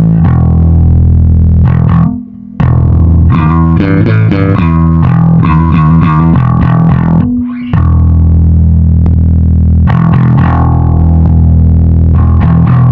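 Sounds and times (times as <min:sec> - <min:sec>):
electric bass playing: 0:00.0 - 0:12.9.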